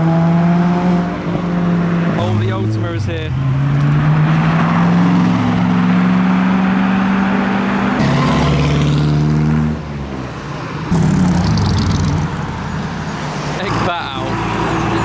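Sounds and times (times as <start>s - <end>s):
cars driving slowly past: 0.6s - 15.0s.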